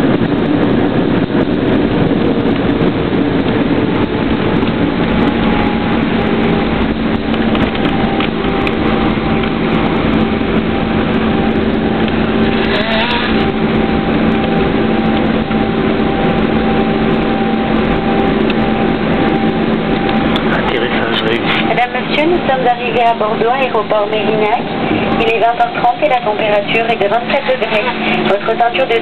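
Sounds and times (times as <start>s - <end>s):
jet engine cabin noise: 0.0s - 29.0s.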